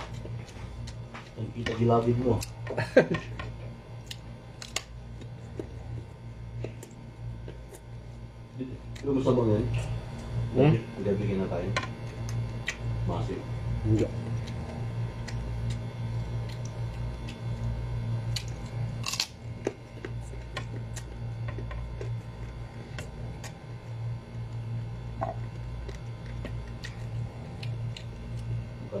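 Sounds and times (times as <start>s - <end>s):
crunchy mango chewing: 0.0s - 10.5s, 11.6s - 28.9s
steady low hum: 0.0s - 29.0s.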